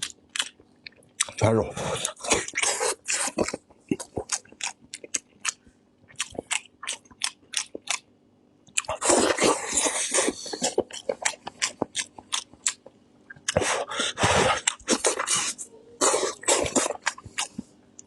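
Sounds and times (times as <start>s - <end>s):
wet chewing and slurping: 0.0s - 8.0s, 8.7s - 17.7s.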